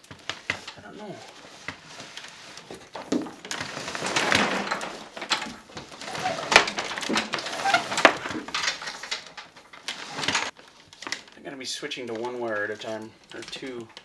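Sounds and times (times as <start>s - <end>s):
cables rustling and scraping: 0.0s - 14.0s.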